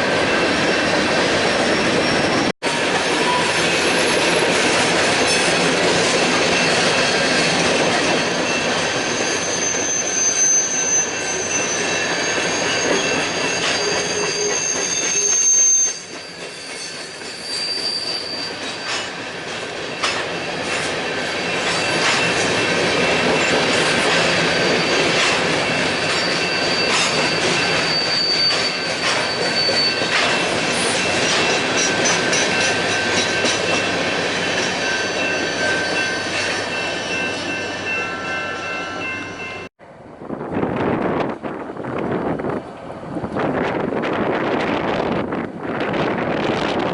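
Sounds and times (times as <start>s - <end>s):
train wheels squealing: 0.0s - 39.7s
train rumble and clatter: 0.0s - 46.9s.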